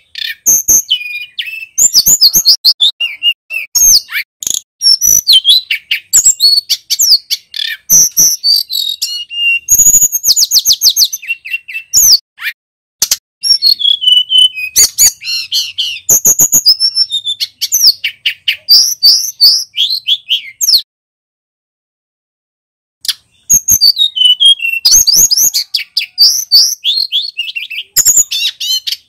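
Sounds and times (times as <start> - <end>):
bird singing whistles and trills: 0.0 - 12.6, 13.4 - 20.9, 23.0 - 29.0.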